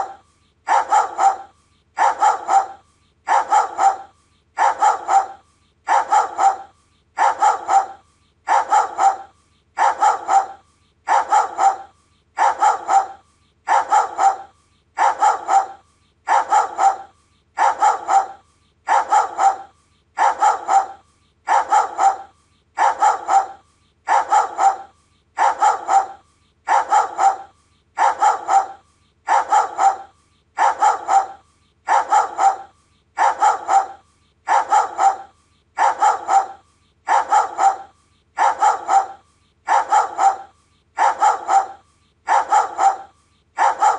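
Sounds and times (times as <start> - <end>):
dog barking: 0.0 - 43.9.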